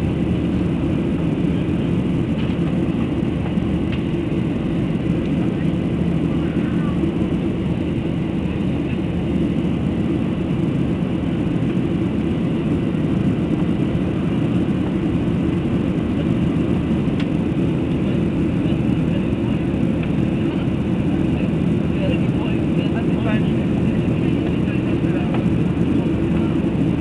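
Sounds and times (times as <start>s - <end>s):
airplane engines droning: 0.0s - 27.0s.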